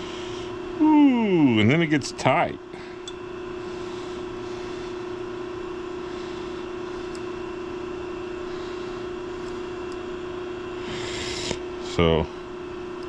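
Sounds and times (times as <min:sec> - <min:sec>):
electric motor humming: 0:00.0 - 0:13.0.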